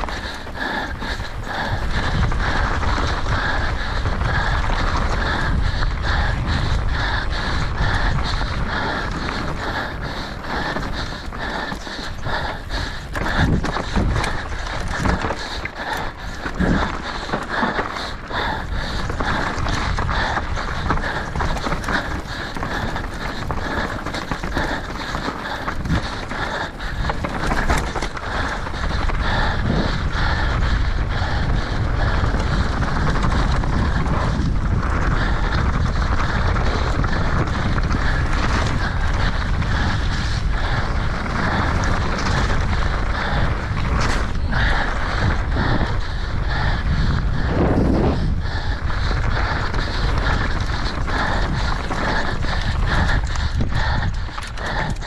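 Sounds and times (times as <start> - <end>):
bike rattling over rocky ground: 0.0 - 55.0
wind buffeting microphone: 0.0 - 55.0.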